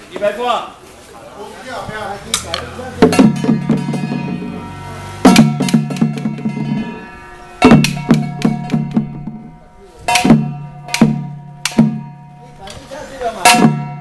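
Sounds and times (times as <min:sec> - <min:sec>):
temple drumming: 0:02.4 - 0:14.0.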